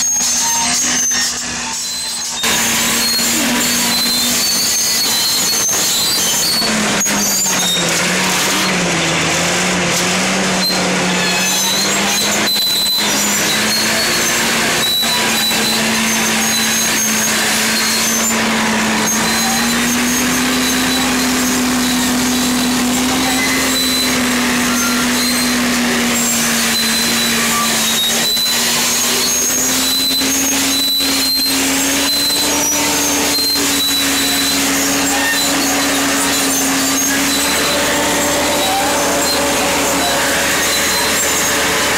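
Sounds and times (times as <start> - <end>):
diesel engine under heavy load: 0.0 - 41.9
high metallic squeaks: 0.0 - 41.9.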